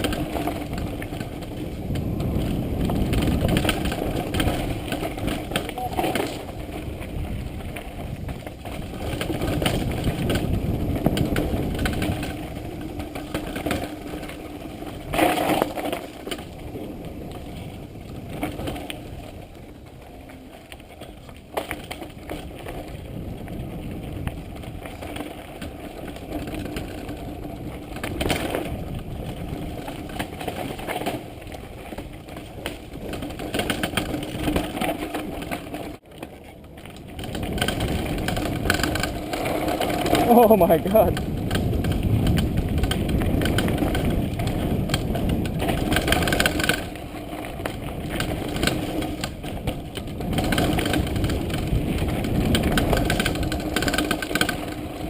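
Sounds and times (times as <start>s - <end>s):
wind noise: 0.0s - 36.0s, 36.8s - 55.0s
bike tyres rattling over rock: 0.0s - 55.0s.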